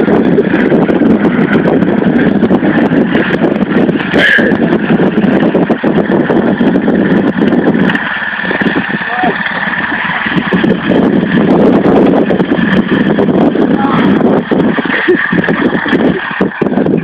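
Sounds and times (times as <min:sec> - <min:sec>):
lawn tractor engine running hard: 0:00.0 - 0:17.0.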